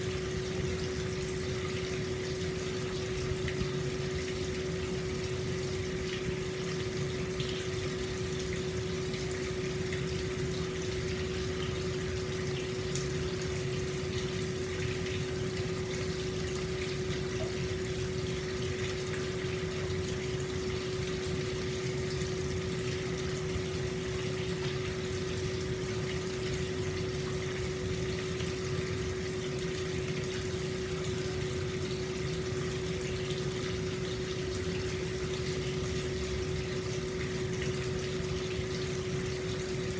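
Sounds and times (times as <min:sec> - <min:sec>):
water pouring into bath: 0:00.1 - 0:39.9.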